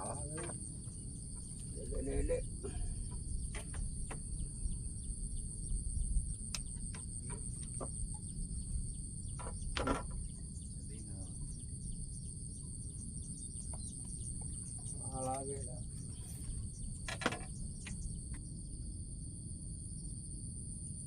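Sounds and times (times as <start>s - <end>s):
insects shrilling: 0.0s - 18.3s
low rumble: 0.6s - 20.4s.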